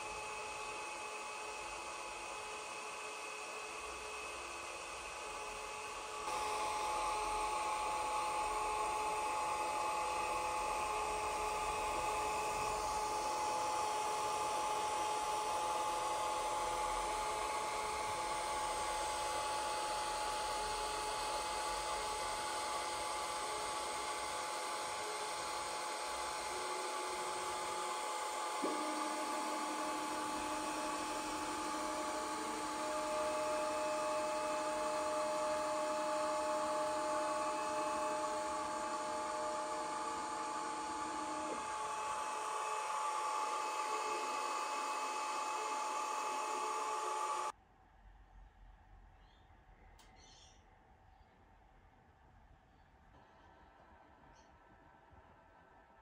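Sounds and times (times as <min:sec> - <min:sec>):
machine motor whine: 0:00.0 - 0:47.5.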